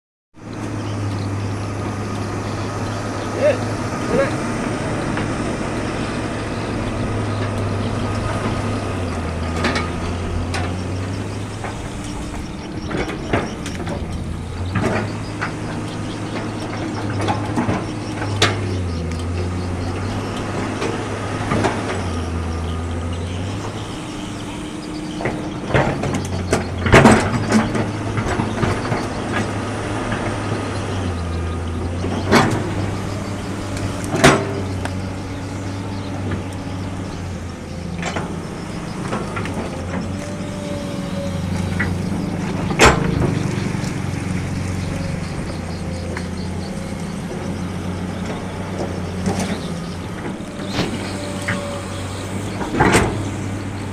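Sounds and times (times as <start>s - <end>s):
diesel engine running: 0.4s - 53.9s
metallic clanks and knocks: 0.5s - 53.9s.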